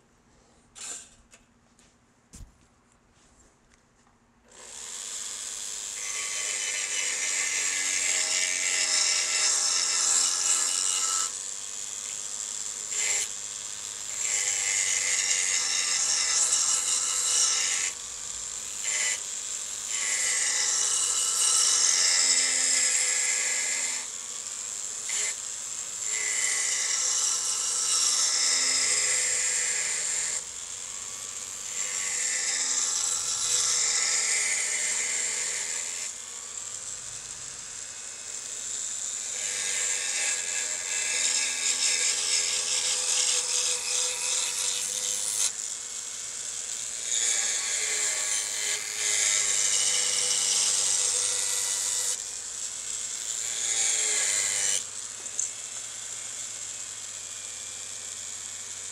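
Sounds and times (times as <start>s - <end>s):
power tool cutting wood: 4.5s - 58.9s.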